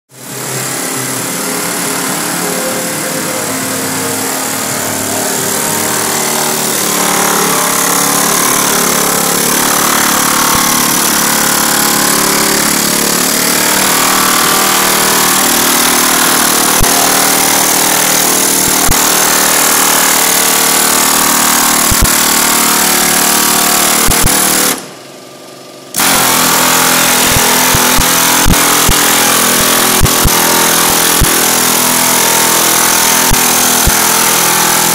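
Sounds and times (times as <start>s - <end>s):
air hammer hammering metal: 0.2s - 25.0s, 25.9s - 34.9s.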